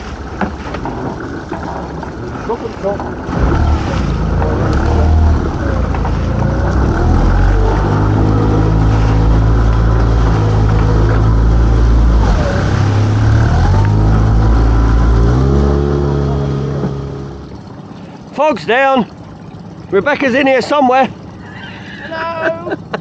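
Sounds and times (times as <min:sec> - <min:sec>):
boat engine running: 0:00.0 - 0:23.0
water rushing past hull: 0:00.0 - 0:23.0
wind: 0:00.0 - 0:23.0.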